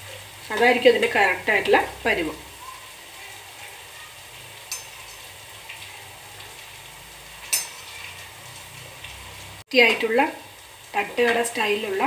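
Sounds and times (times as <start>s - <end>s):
batter sizzling in oil: 0.0s - 12.0s.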